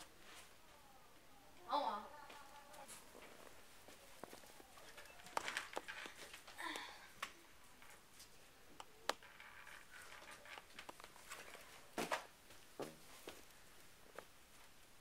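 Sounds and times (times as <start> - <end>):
rustling: 0.0 - 1.3, 2.1 - 15.0.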